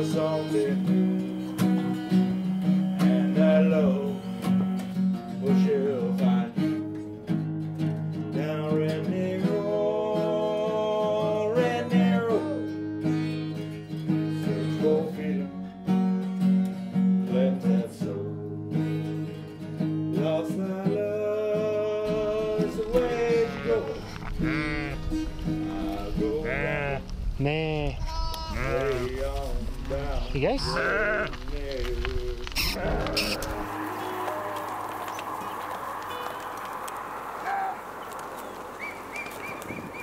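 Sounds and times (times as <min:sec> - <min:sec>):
country song on acoustic guitar: 0:00.0 - 0:35.4.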